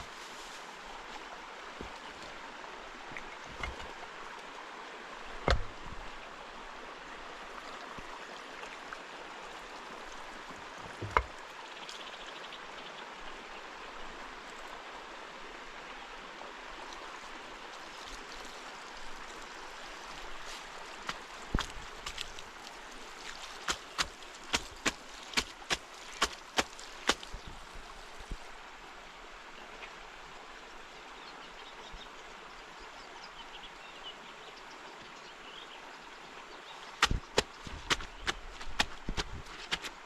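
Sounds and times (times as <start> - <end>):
running water: 0.0 - 31.1, 35.7 - 40.0.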